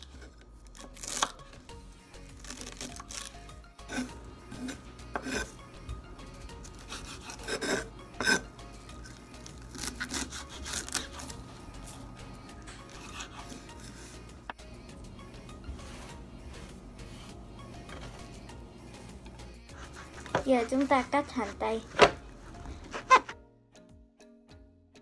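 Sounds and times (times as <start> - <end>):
knife cutting and scraping: 0.0 - 23.4.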